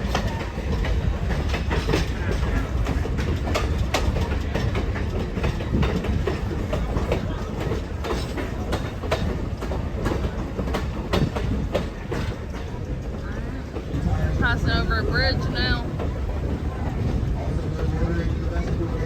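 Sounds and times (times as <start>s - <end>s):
low train rumble: 0.0s - 19.0s
train wheels clacking on rails: 0.0s - 19.0s.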